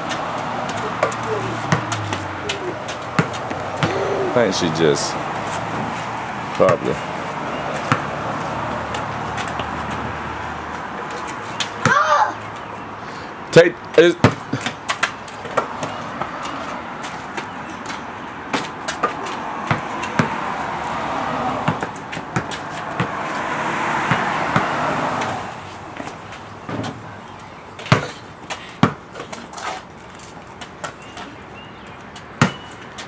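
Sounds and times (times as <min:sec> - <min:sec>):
basketball bouncing on concrete: 0:00.0 - 0:12.1, 0:14.1 - 0:21.0, 0:21.6 - 0:25.4, 0:26.0 - 0:29.4, 0:32.2 - 0:33.0.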